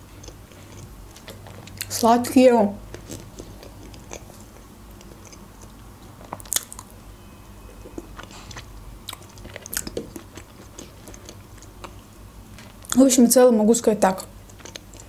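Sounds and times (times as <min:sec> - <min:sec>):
person chewing food: 0:00.0 - 0:02.0, 0:02.8 - 0:07.0, 0:07.6 - 0:13.0, 0:14.4 - 0:15.0.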